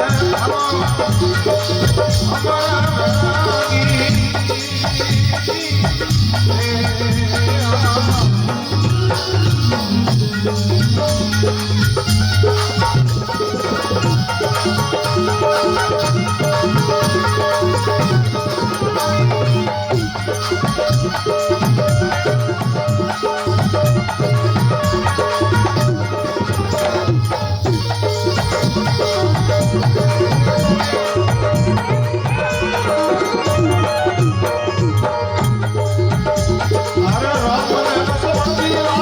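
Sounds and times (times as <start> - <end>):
hand drum beat: 0.0 - 39.0
instrumental melody: 0.0 - 39.0
rattling percussion: 0.0 - 39.0.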